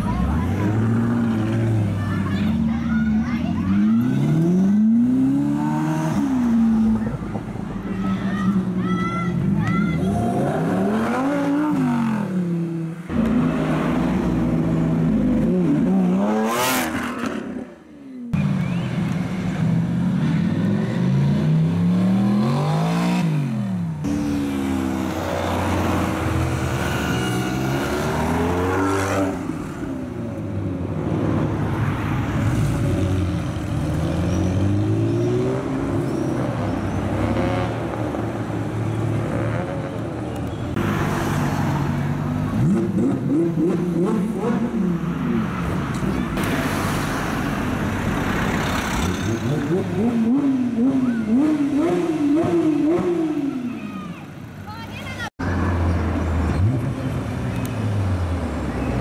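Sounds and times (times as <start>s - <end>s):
sports car engines revving: 0.0s - 8.7s, 9.4s - 54.7s.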